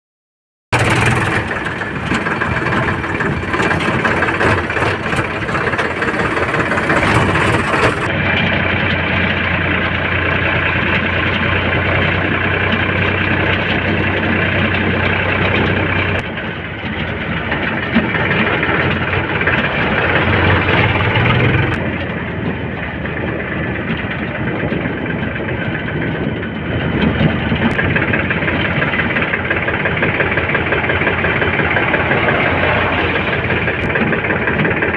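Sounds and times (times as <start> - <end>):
diesel engines running: 0.7 - 34.9.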